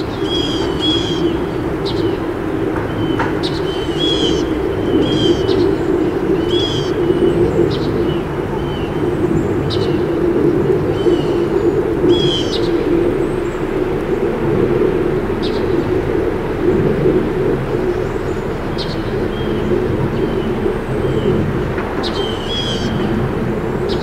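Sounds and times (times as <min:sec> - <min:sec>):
songbirds chirping: 0:00.0 - 0:24.0
steady low hum: 0:00.0 - 0:24.0.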